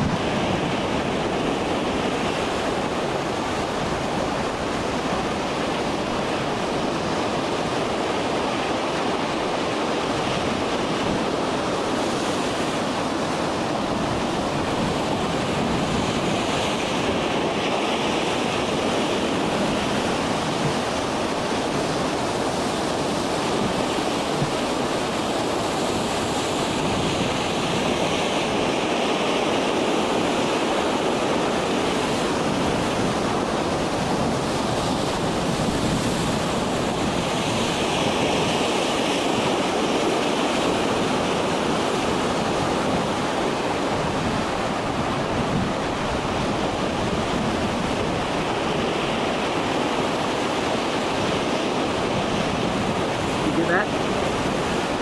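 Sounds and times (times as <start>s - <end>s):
waves breaking: 0.0s - 55.0s
wind: 0.0s - 55.0s.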